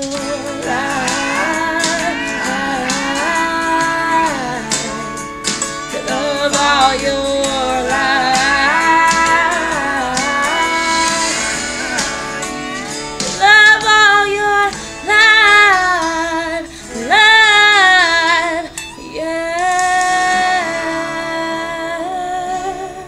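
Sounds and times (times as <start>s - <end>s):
karaoke backing track with guitar: 0.0s - 23.0s
woman singing with vibrato: 0.0s - 23.0s.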